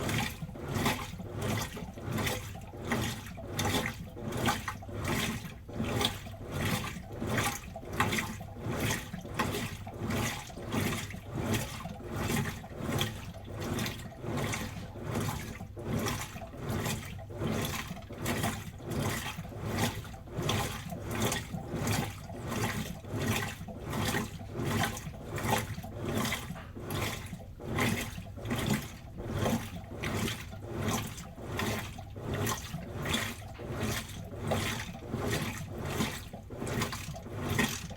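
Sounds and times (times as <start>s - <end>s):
washing machine sloshing: 0.0s - 37.9s.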